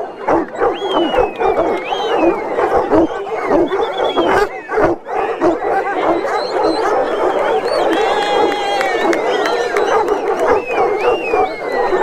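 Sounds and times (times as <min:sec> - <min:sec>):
dogs barking and yelping: 0:00.0 - 0:12.0
dogs howling: 0:00.0 - 0:12.0.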